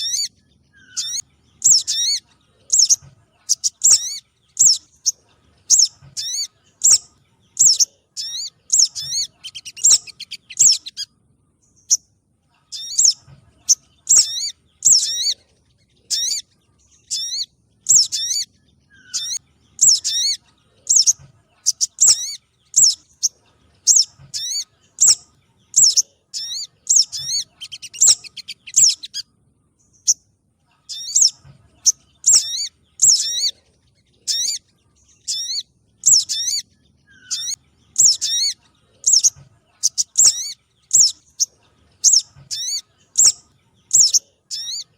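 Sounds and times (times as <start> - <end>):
recorded bird calls: 0.0 - 44.9.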